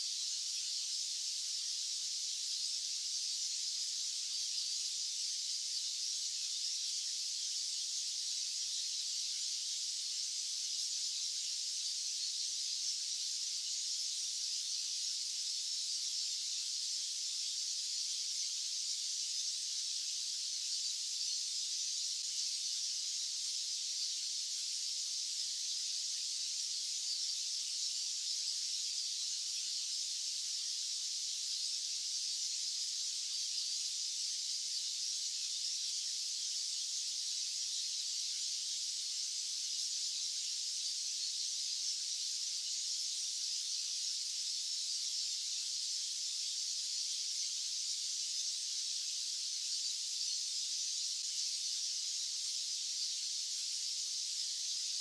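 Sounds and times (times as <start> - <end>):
high-pitched white noise hiss: 0.0 - 55.0.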